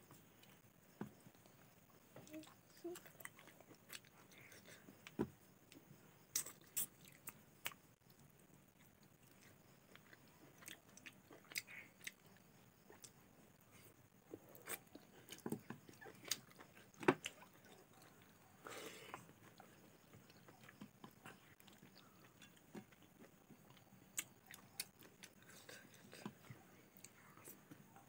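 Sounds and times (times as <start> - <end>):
person chewing food: 2.3 - 13.2, 14.2 - 27.9.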